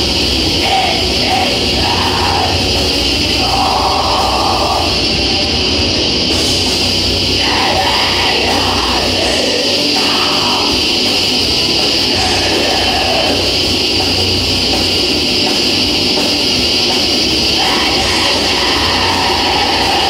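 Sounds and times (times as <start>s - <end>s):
distorted electric guitars: 0.0s - 20.0s
drums: 0.0s - 20.0s.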